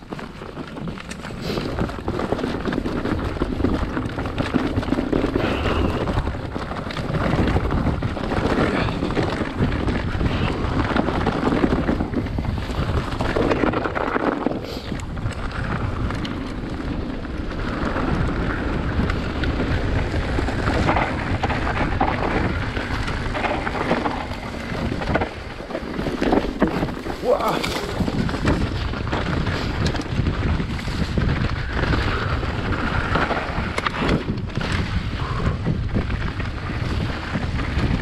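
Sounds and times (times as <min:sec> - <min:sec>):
bike knocking and rattling: 0:00.0 - 0:38.0
bike tyres rolling on trail: 0:00.0 - 0:38.0
wind on microphone: 0:00.8 - 0:38.0.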